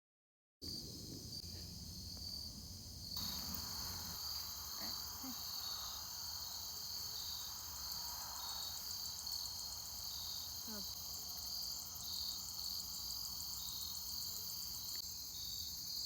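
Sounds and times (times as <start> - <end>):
crickets chirping: 0.7 - 16.0.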